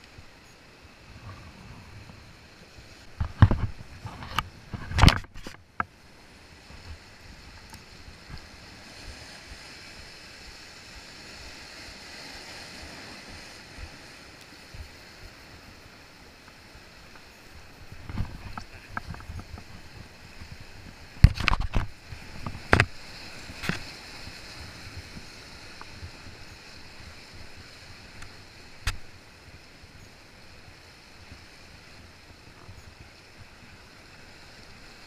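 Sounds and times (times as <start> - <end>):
sea washing over rocks: 0.0 - 35.0.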